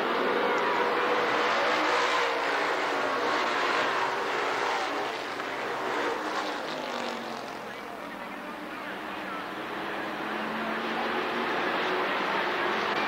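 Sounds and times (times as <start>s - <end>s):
race car engines running: 0.0s - 13.0s.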